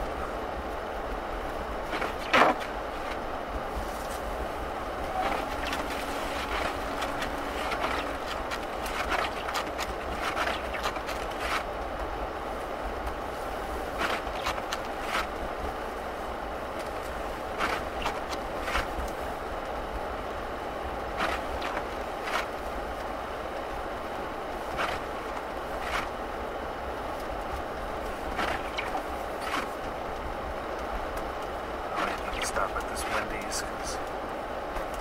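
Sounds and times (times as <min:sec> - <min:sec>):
road and tyre noise: 0:00.0 - 0:35.0.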